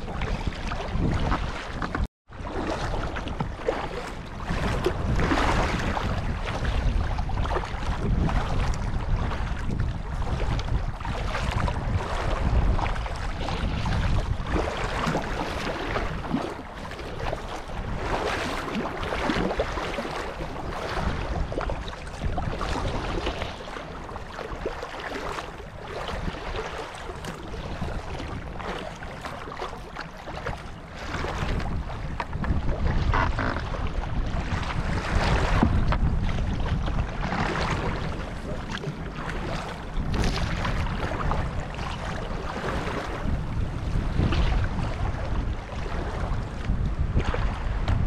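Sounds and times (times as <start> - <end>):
water splashing around kayak: 0.0 - 48.0
wind rumble on microphone: 0.0 - 48.0.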